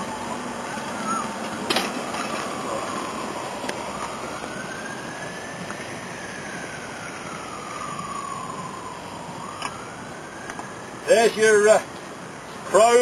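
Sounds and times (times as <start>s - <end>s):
siren wailing: 0.0s - 11.9s
steady rushing noise: 0.0s - 13.0s.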